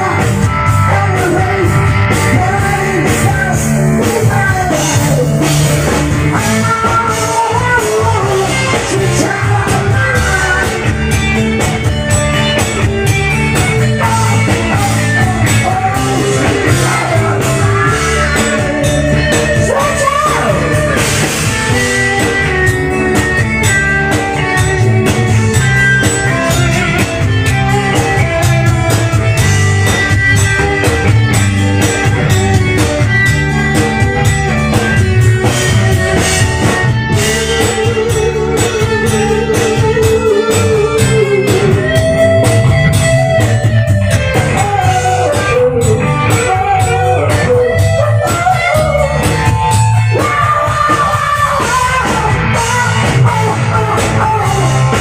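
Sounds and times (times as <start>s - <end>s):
bass guitar: 0.0s - 55.0s
drum kit: 0.0s - 55.0s
electric guitar: 0.0s - 55.0s
man singing: 0.0s - 55.0s.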